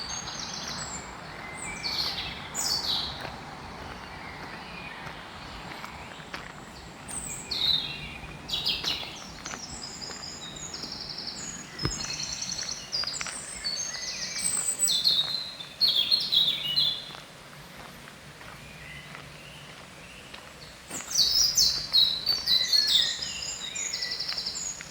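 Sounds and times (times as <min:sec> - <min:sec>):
songbirds singing trills: 0:00.0 - 0:24.9.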